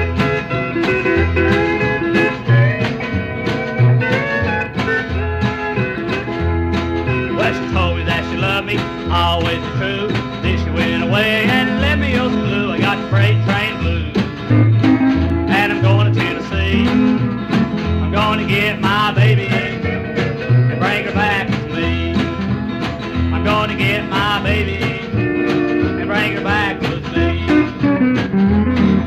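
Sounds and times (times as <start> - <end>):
acoustic guitar country blues: 0.0 - 29.0.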